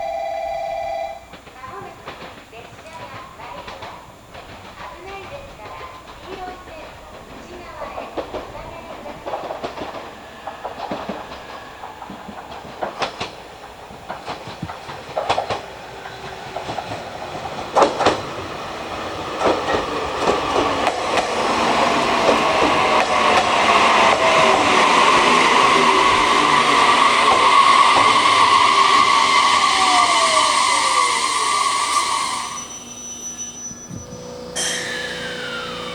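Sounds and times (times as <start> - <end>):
train running noise: 0.0 - 35.9
train wheels clacking: 0.0 - 35.9.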